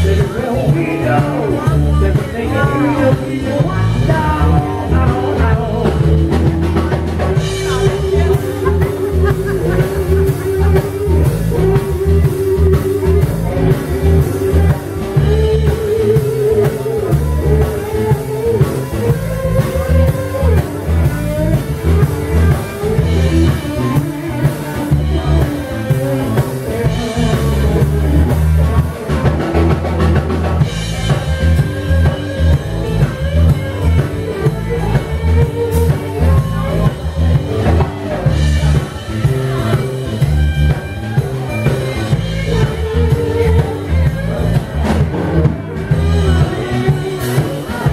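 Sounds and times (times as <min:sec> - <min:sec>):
drum kit: 0:00.0 - 0:47.9
electric bass: 0:00.0 - 0:47.9
electric guitar: 0:00.0 - 0:47.9.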